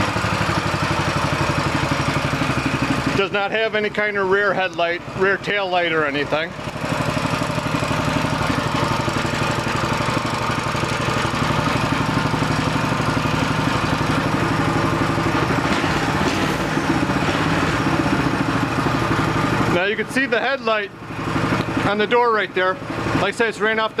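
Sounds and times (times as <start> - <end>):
mini bike engine idling: 0.0 - 24.0.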